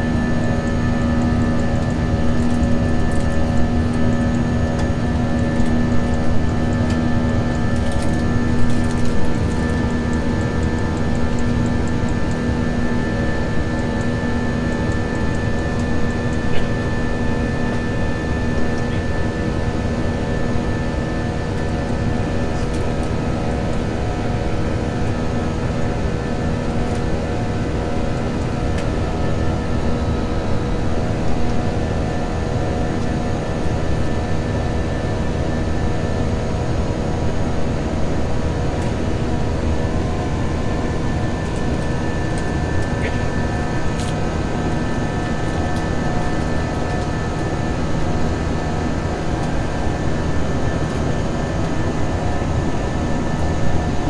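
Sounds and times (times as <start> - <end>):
airplane cabin engine and airflow: 0.0 - 54.0
steady hum tones: 0.0 - 54.0.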